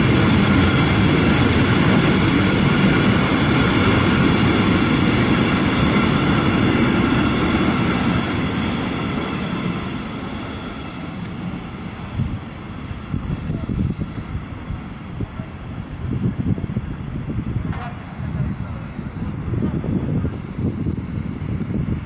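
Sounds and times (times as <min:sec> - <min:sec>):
train wheels rumbling on rail: 0:00.0 - 0:22.0
train whine: 0:00.0 - 0:22.0.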